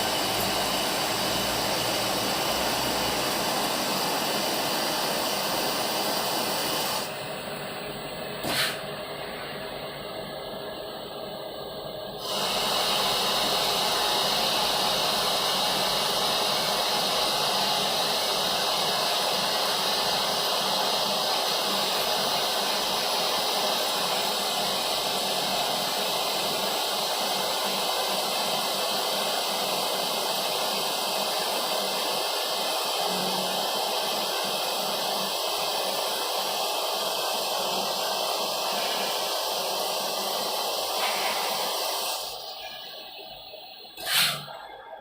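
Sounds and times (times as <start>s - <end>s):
lathe hissing: 0.0s - 44.6s.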